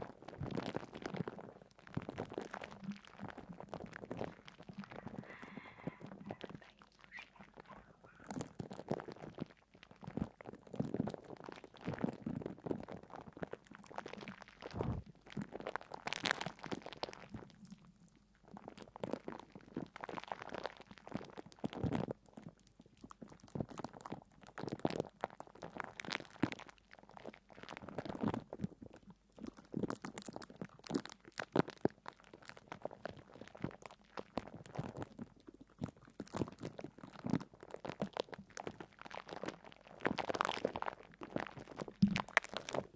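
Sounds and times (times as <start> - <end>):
soft crunching and crackling: 0.0 - 42.9.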